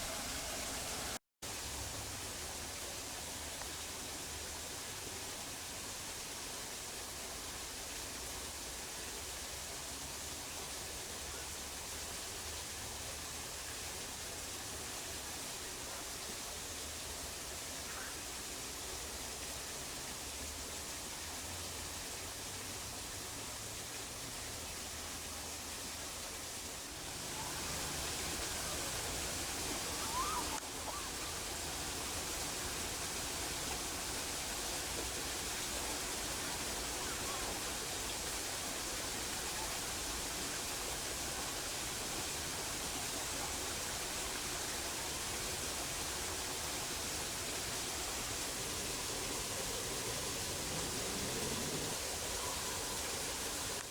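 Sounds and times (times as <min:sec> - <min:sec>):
outdoor ambient hiss: 0:00.0 - 0:53.9.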